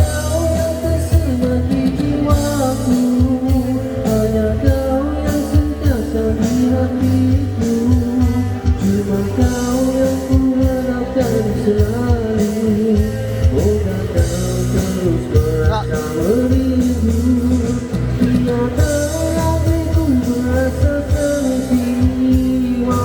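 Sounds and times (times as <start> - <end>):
pop-rock ballad with band: 0.0 - 23.0
steady drum beat: 0.0 - 23.0.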